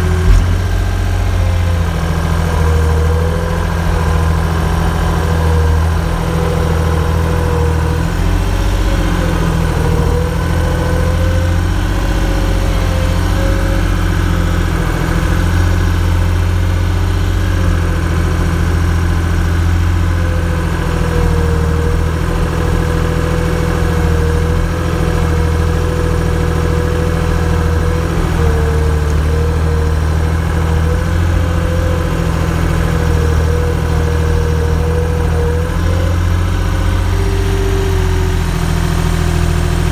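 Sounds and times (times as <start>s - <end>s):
large engine idling: 0.0s - 39.9s.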